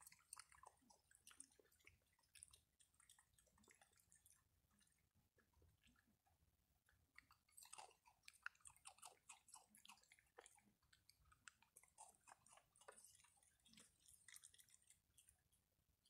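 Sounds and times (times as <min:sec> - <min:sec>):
raccoon chewing and crunching: 0:00.0 - 0:16.0.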